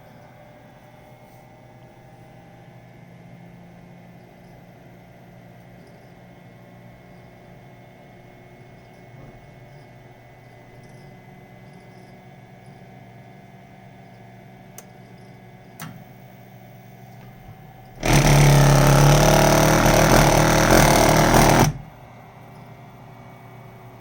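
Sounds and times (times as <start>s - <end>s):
boiler vibrating buzz: 0.0s - 24.0s.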